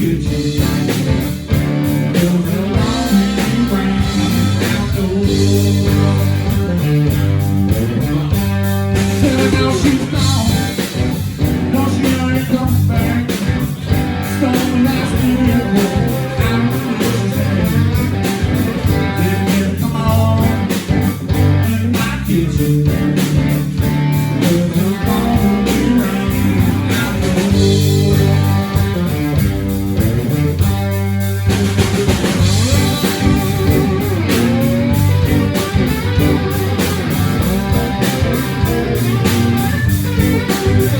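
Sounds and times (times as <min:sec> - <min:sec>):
blues-rock band playing live: 0:00.0 - 0:40.9.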